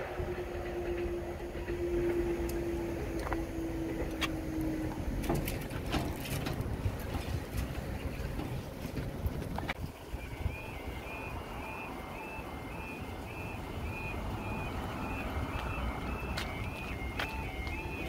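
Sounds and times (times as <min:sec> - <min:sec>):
barrier mechanism hum: 0:00.0 - 0:18.0
car engine rumble: 0:00.0 - 0:18.0.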